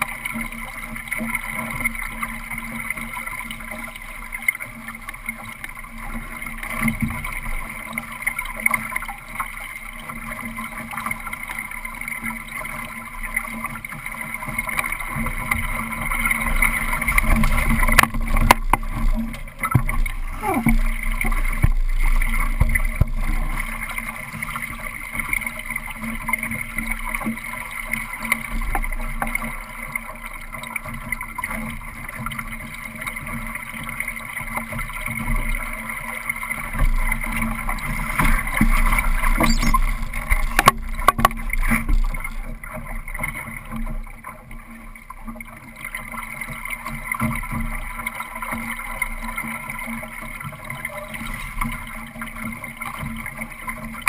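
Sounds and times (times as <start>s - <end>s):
water slapping along boat hull: 0.0s - 54.0s.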